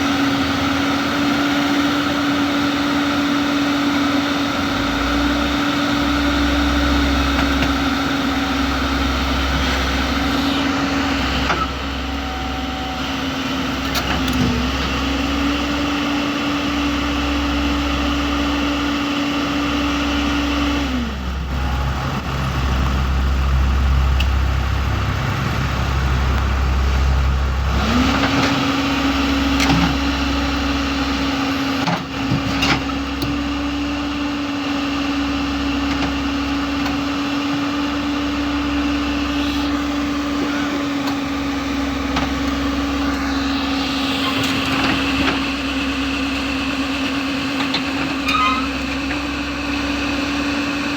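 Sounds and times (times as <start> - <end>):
diesel engine at high revs: 0.0 - 50.9.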